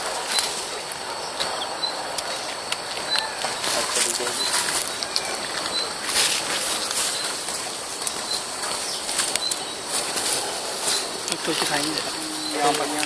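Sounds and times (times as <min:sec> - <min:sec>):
twigs and leaves crackling: 0:00.0 - 0:13.0.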